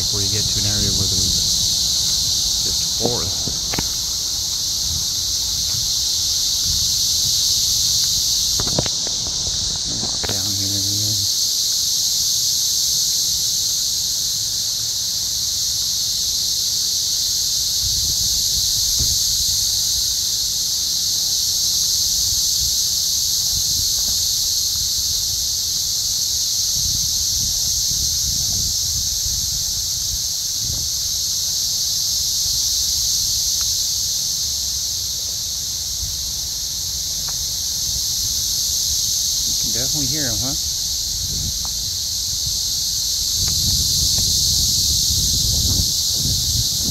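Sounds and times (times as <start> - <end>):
cicadas singing: 0.0 - 46.9.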